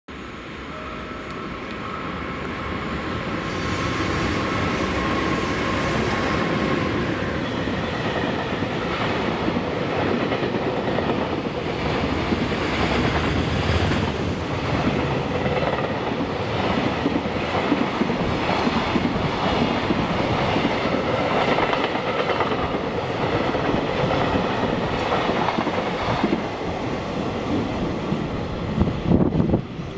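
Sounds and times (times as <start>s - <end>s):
freight train passing: 0.1s - 29.9s.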